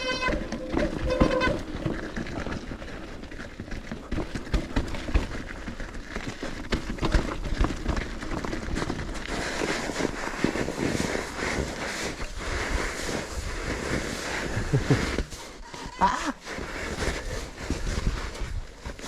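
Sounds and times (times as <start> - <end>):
bike knocking and rattling: 0.0 - 19.0
bike tyres crunching on dirt: 0.0 - 19.0.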